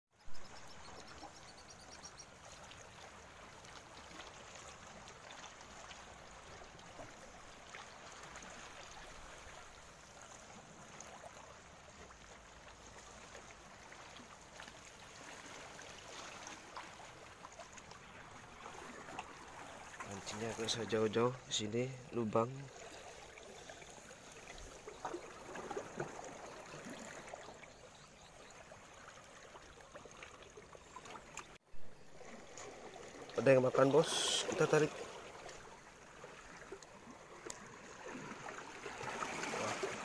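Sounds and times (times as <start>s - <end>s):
sea water lapping: 0.4s - 40.0s.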